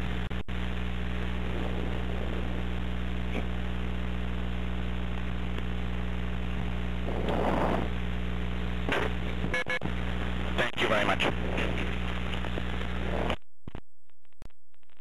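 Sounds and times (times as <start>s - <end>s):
telephone line hum and hiss: 0.0s - 15.0s.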